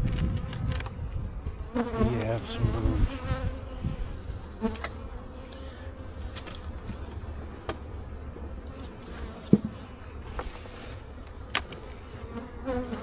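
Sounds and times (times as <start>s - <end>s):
bees buzzing: 1.4s - 7.1s, 8.0s - 13.0s.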